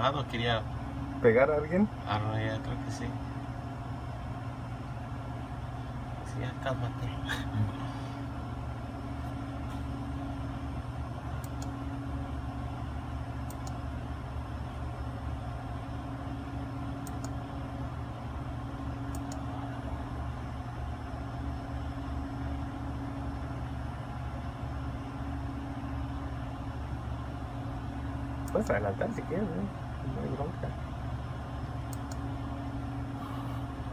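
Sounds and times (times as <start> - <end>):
low mechanical hum: 0.0 - 33.9.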